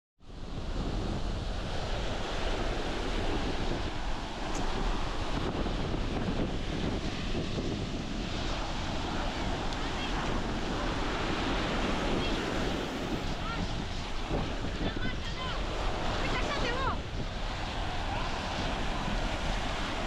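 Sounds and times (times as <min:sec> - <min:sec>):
ocean surf breaking on beach: 0:00.3 - 0:20.0
wind buffeting microphone: 0:00.3 - 0:20.0.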